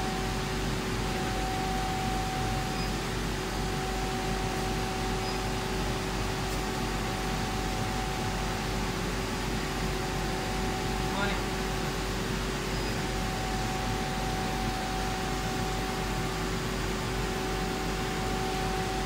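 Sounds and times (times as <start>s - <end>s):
two-tone hum: 0.0s - 16.4s
machine fans rushing hiss: 0.0s - 19.0s.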